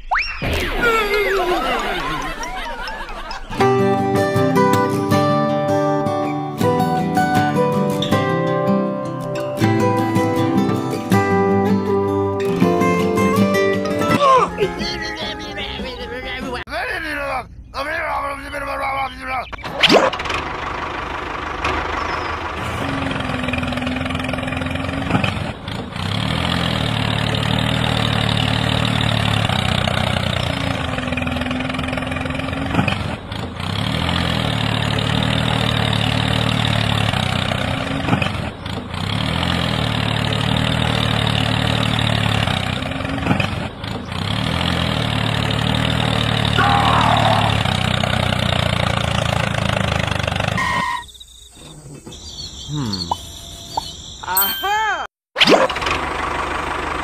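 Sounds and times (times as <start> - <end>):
tractor engine running: 1.4 - 54.8, 55.6 - 57.0.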